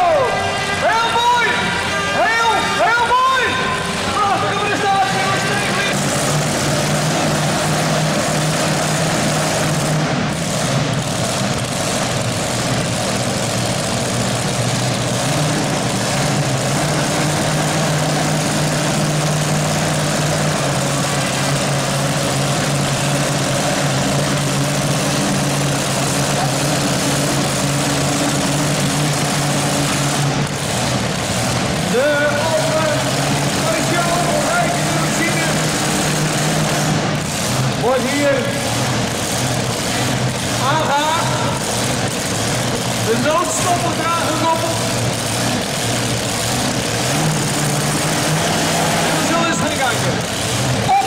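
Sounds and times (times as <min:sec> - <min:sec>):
truck engine running: 0:00.0 - 0:51.0.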